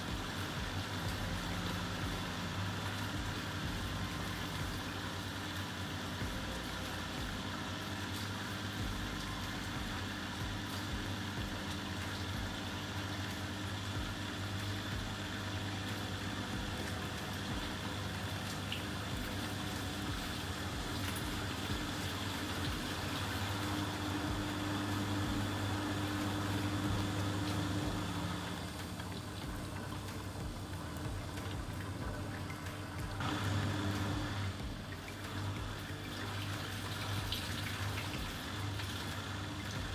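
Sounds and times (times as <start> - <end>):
washing machine motor hum: 0.0 - 39.9
water sloshing and gurgling: 0.0 - 39.9.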